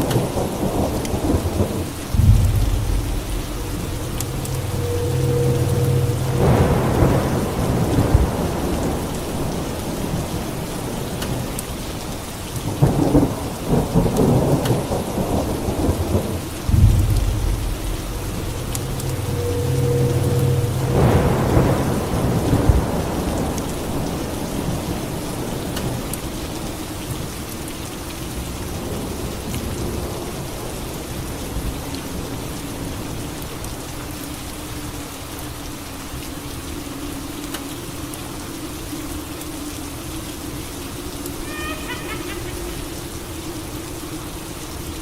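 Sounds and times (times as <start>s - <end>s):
thunder rumble and crack: 0.0s - 36.7s
steady rain: 0.0s - 45.0s.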